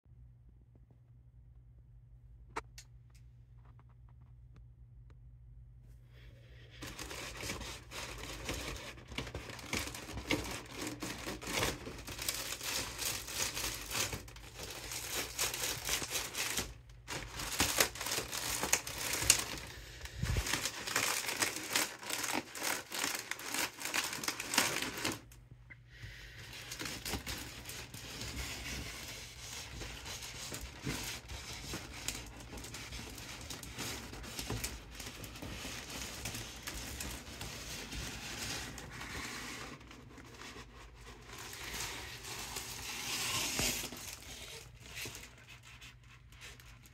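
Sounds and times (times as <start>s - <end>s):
foil balloon crinkling: 6.6s - 46.9s.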